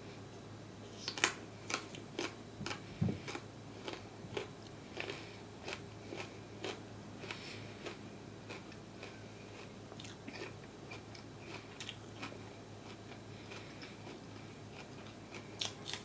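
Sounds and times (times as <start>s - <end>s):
chewing crunchy food: 1.0s - 16.0s.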